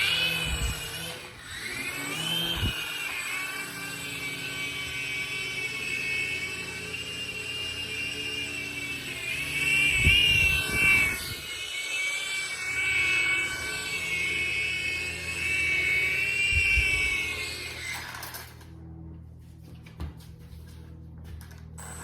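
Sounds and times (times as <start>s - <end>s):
toy drone rotors whining: 0.0s - 18.9s, 21.4s - 22.0s.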